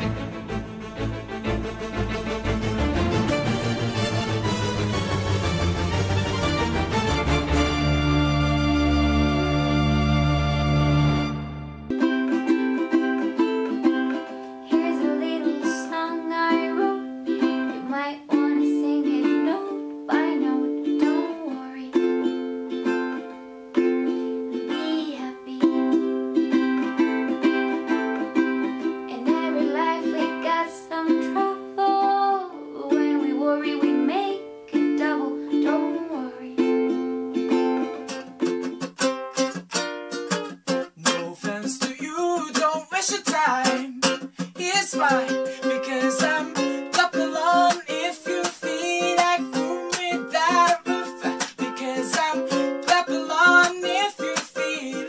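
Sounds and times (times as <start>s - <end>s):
ukulele playing: 0.0s - 55.0s.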